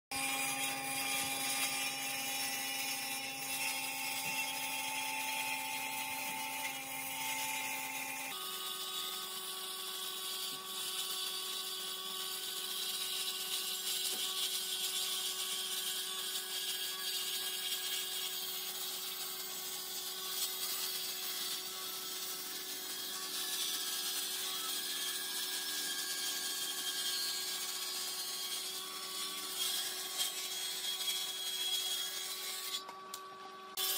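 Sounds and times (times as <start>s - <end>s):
jointer-planer cutting board: 0.1s - 33.9s.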